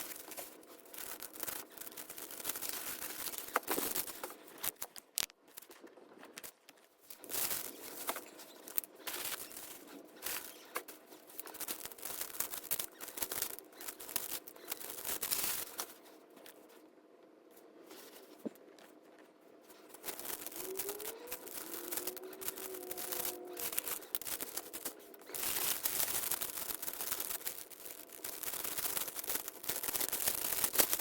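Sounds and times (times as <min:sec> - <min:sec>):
rustling crinkling handling noise: 0:00.0 - 0:16.8, 0:17.5 - 0:31.0.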